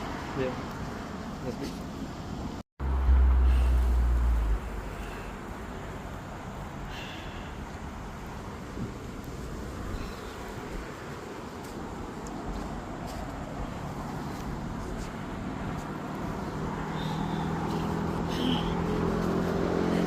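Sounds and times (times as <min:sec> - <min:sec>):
traffic rushing: 0:00.0 - 0:20.0
vehicle engine hum: 0:00.0 - 0:20.0.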